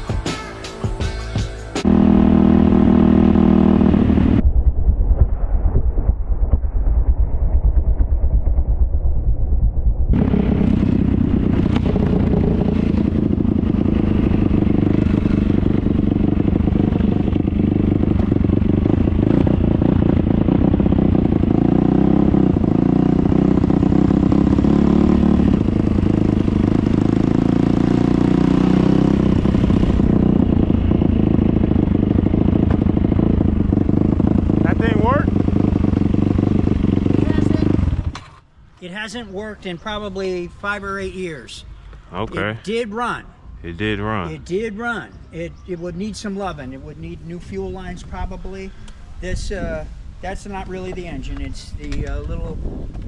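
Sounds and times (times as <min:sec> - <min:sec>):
dirt bike engine droning: 0:00.0 - 0:48.5.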